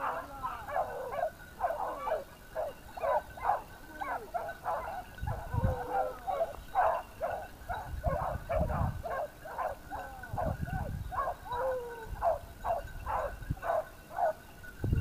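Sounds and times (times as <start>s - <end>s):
hounds yelping barks: 0.0s - 14.5s.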